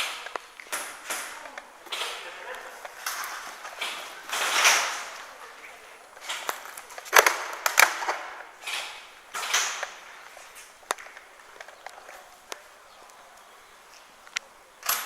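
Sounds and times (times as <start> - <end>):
rustling noise: 0.0 - 15.0
sharp cracks and clicks: 0.0 - 15.0.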